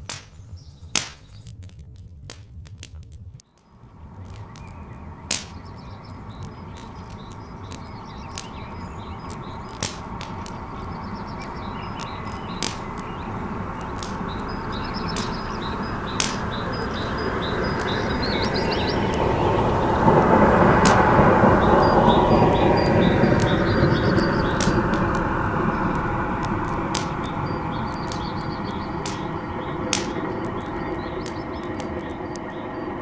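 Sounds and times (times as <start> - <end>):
birds chirping: 0.0 - 1.5, 3.5 - 33.0
log fire crackling and popping: 0.0 - 33.0
low rumble: 0.0 - 33.0.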